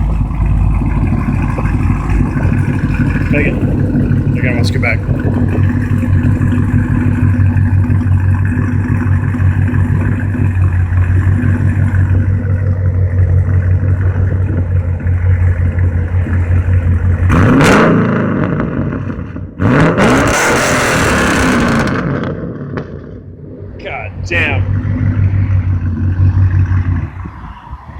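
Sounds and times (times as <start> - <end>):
car engine idling lumpily: 0.0 - 19.6, 22.7 - 27.2
car engine revving: 0.0 - 27.8.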